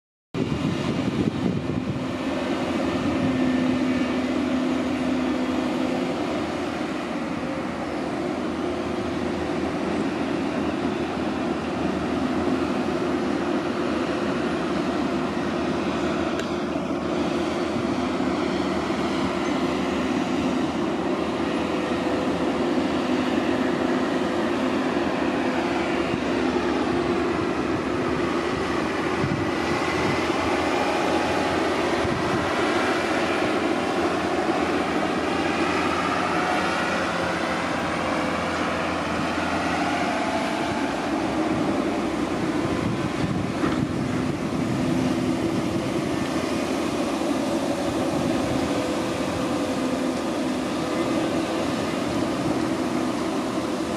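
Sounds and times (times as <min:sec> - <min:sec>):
dump truck engine running: 0:00.4 - 0:53.9
excavator diesel engine drone: 0:00.4 - 0:53.9.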